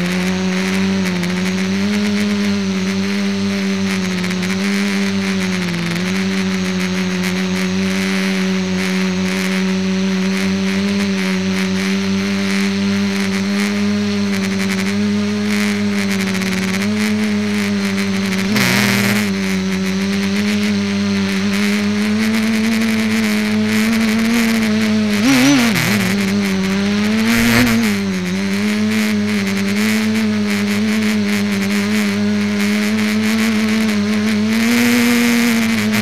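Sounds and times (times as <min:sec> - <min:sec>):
drone motors buzzing hum: 0:00.0 - 0:36.0.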